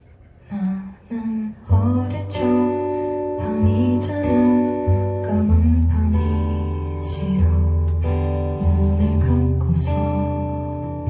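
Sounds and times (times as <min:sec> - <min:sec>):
acoustic guitar chords: 0:01.7 - 0:11.0.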